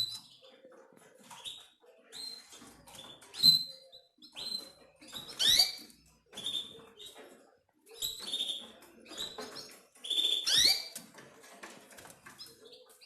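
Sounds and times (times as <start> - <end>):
canaries chirping: 0.0 - 13.0.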